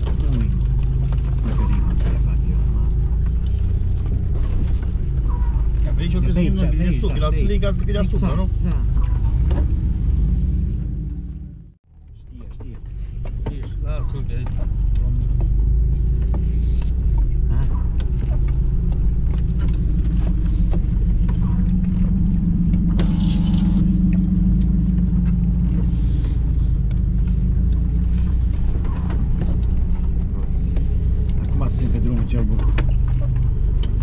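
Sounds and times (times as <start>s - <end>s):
body and suspension rattles: 0.0s - 34.0s
engine low rumble: 0.0s - 34.0s.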